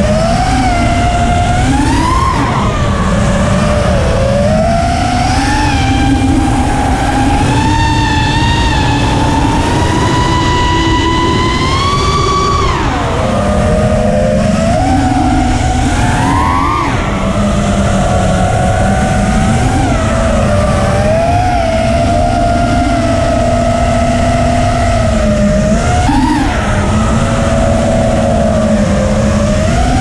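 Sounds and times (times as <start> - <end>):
quadcopter motors screaming: 0.0 - 30.0
wind rush: 0.0 - 30.0.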